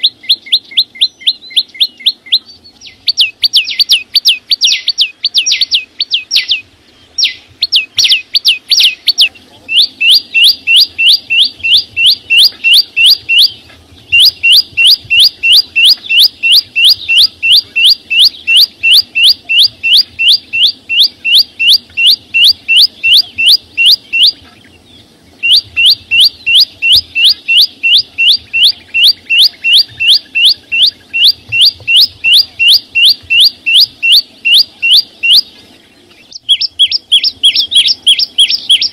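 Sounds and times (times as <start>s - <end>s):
songbird singing high sharp notes: 0.0s - 38.9s.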